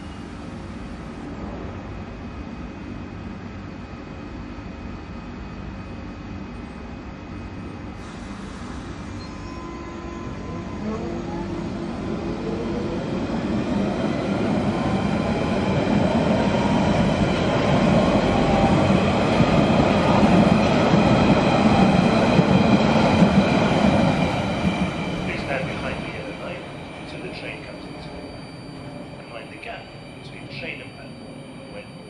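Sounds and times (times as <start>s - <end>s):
train traction motor whine: 4.3s - 32.0s.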